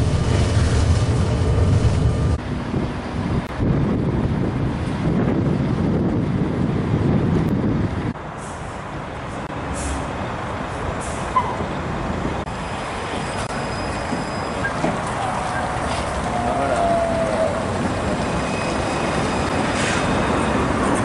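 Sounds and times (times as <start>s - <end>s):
city bus passing: 0.0s - 21.0s
tram moving on rails: 0.0s - 21.0s.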